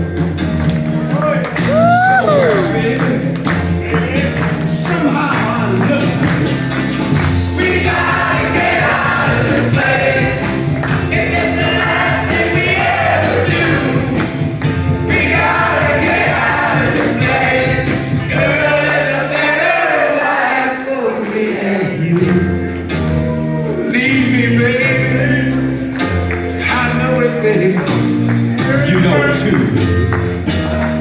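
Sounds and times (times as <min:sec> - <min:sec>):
dance music with singing: 0:01.1 - 0:31.0.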